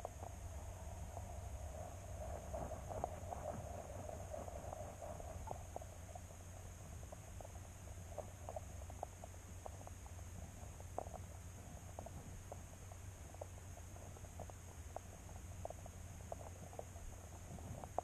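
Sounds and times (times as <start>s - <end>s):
low hum with high whine: 0.0s - 18.0s.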